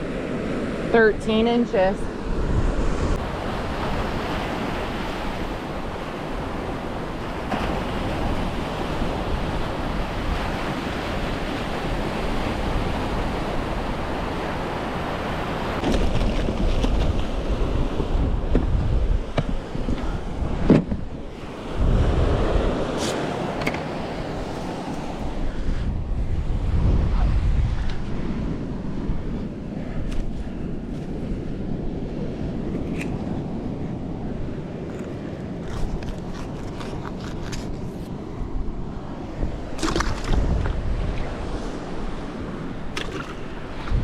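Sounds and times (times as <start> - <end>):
ocean surf washing onto beach: 0.0 - 35.9, 37.8 - 44.0
wind buffeting microphone: 0.0 - 44.0.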